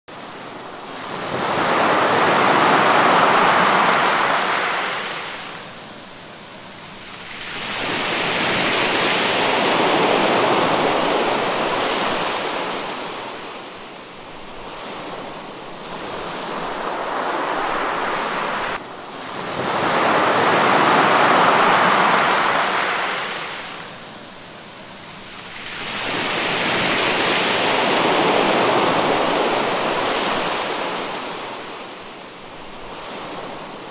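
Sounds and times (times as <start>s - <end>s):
waves breaking on shore: 0.1s - 33.9s.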